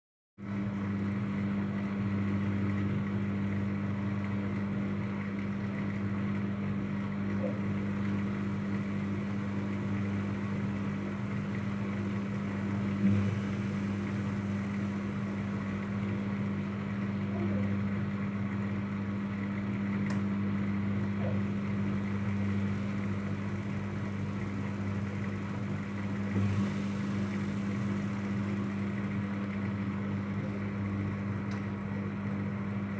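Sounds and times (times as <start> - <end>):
washing machine motor humming: 0.4 - 32.9.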